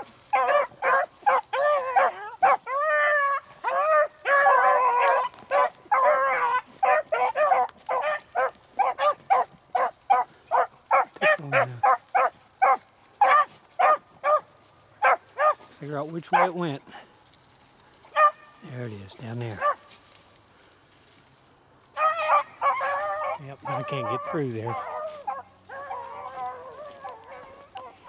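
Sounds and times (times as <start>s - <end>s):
beagles baying: 0.0s - 28.0s.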